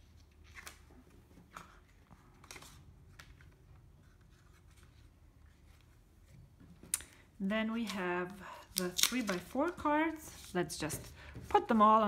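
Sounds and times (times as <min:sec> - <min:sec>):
paper cards rustling: 0:00.0 - 0:06.3, 0:07.8 - 0:12.0.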